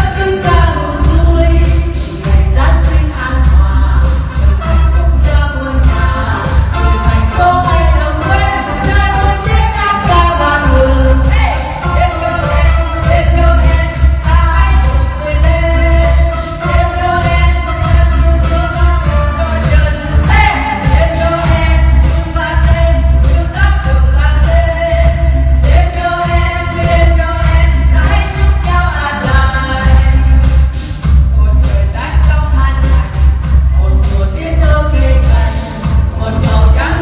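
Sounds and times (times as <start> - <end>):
amplified backing music: 0.0 - 37.0
heavy bass beat: 0.0 - 37.0
women singing: 0.0 - 37.0.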